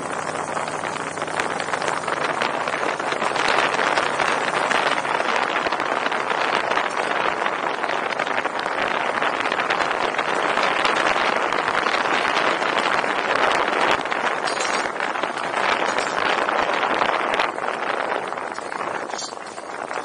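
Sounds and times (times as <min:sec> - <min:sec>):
rushing wind: 0:00.0 - 0:20.0
tyre noise: 0:00.0 - 0:20.0.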